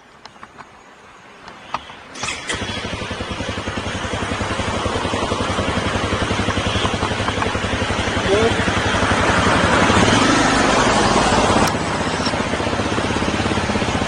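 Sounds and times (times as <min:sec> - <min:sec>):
motorcycle engine running: 0:01.8 - 0:14.0.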